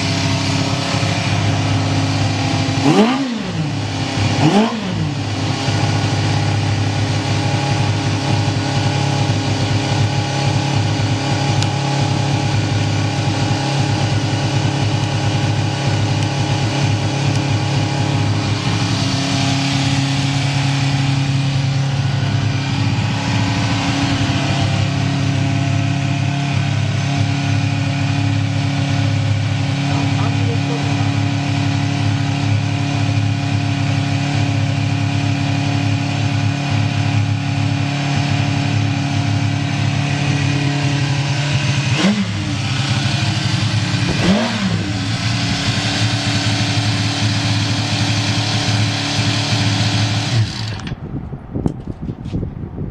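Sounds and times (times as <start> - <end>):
motorcycle engine revving and idling: 0.0 - 52.7.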